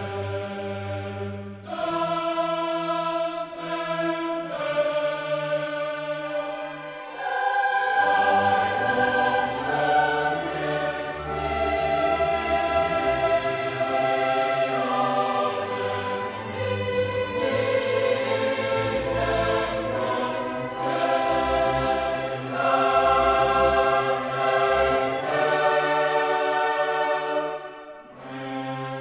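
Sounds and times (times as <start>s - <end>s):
choir singing sustained chords: 0.0s - 29.0s
orchestra: 0.0s - 29.0s.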